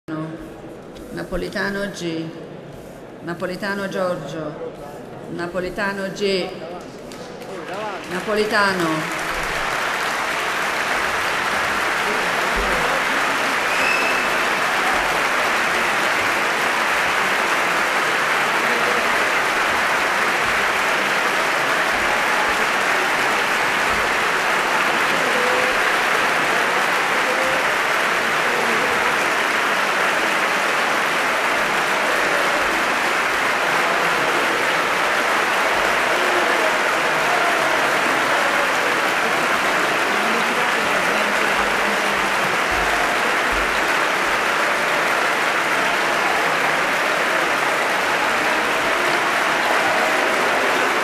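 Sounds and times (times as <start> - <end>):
crowd applause: 6.7 - 51.0.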